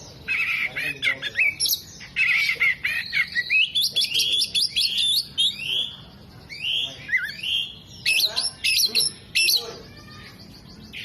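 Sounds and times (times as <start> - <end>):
bird singing chirps and whistles: 0.0 - 11.0.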